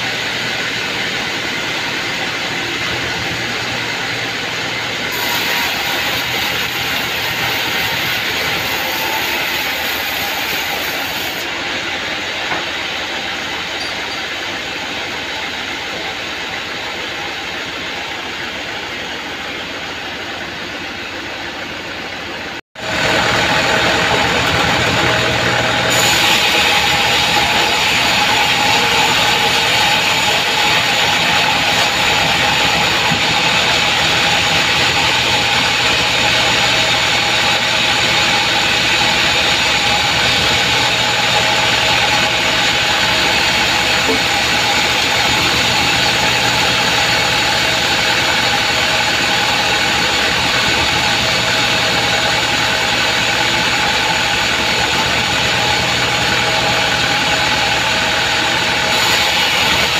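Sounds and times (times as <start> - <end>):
saw blade cutting wood: 0.0 - 11.6, 23.0 - 59.9
band sawmill running: 0.0 - 59.9.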